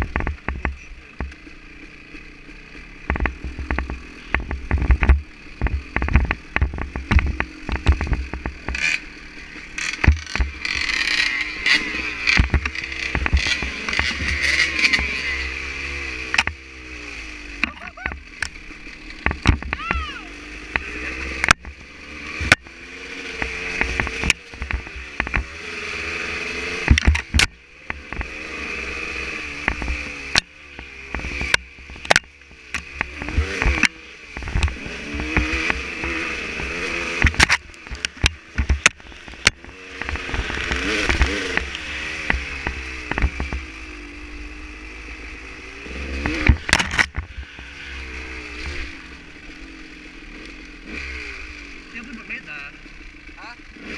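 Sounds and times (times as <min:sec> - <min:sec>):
knocks of bike over bumps: 0:00.0 - 0:16.7, 0:17.5 - 0:44.1, 0:44.9 - 0:49.4
dirt bike engine revving: 0:00.0 - 0:53.9.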